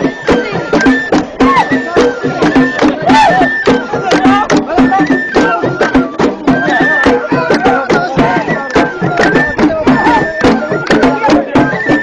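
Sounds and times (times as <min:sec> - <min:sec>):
hands clapping: 0:00.3 - 0:01.3, 0:02.0 - 0:12.0.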